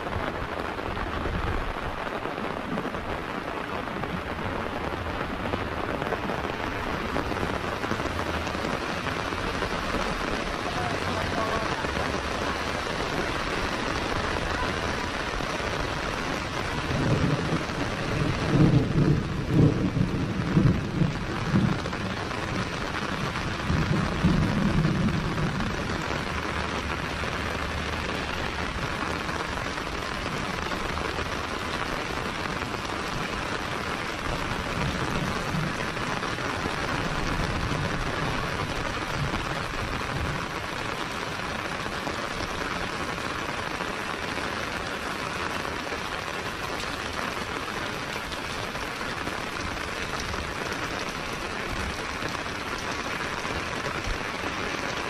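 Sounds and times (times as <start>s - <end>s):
heavy rain on pavement: 0.0s - 55.0s
thunder rumbling: 0.0s - 55.0s.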